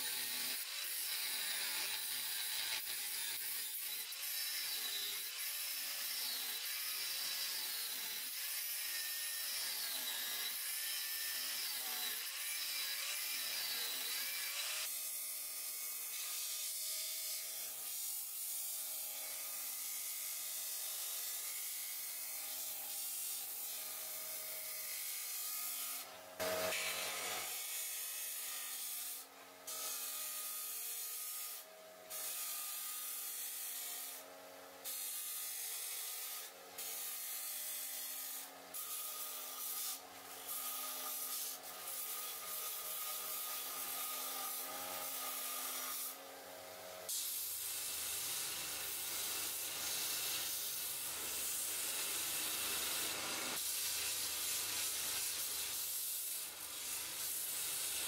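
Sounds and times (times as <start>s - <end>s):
angle grinder cutting steel: 0.0s - 58.0s.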